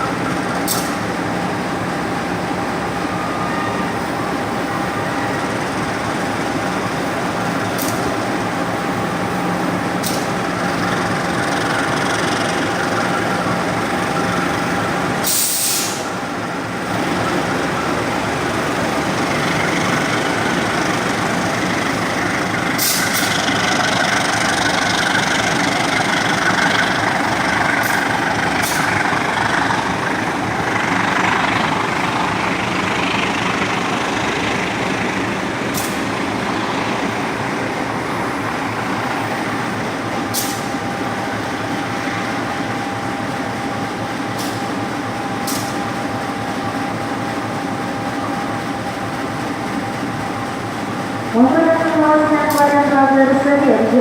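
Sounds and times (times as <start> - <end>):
train carriages rumbling: 0.0 - 54.0.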